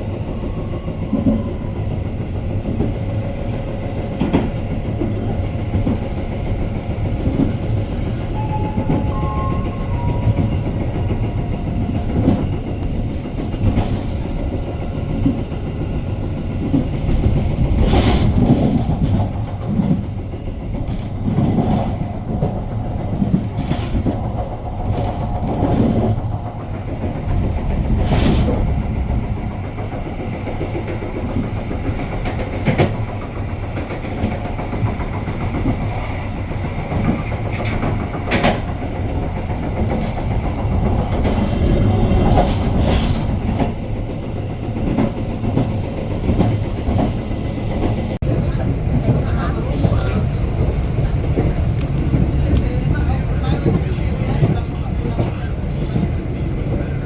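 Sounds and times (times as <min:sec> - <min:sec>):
clicks and knocks of train: 0:00.0 - 0:57.0
train wheels rumbling on track: 0:00.0 - 0:57.0.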